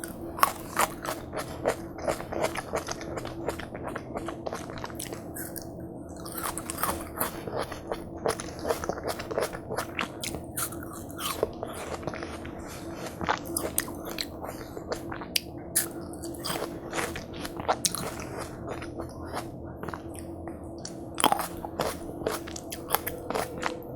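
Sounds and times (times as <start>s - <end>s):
wet crunching and chewing: 0.0s - 23.9s.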